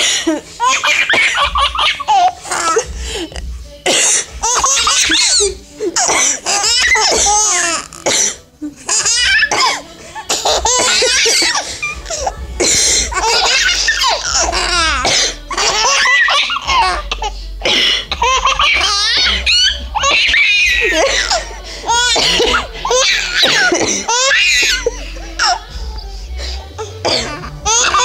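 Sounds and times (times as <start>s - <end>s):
babies laughing: 0.0s - 3.5s, 4.1s - 8.1s, 8.7s - 28.0s
woman coughing: 2.5s - 25.7s, 26.8s - 28.0s.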